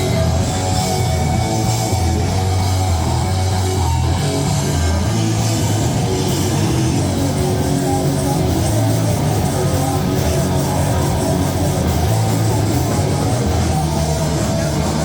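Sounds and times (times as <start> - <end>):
distorted electric guitar: 0.0 - 15.0
heavy bass notes: 0.0 - 15.0
punk band playing live: 0.0 - 15.0.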